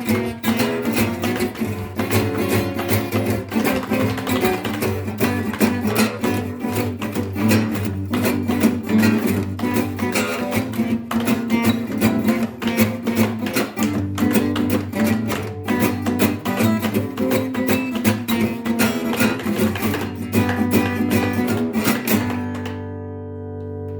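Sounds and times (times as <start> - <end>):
acoustic guitar strumming: 0.0 - 23.9.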